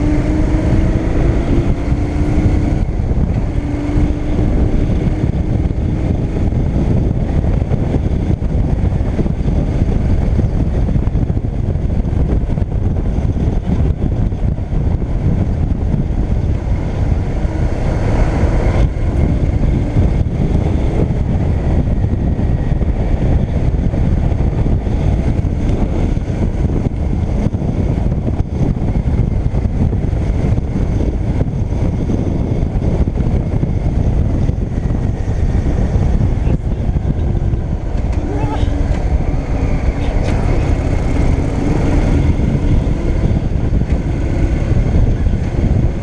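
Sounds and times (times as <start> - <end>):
motorcycle running: 0.0 - 46.0
wind rush on microphone: 0.0 - 46.0.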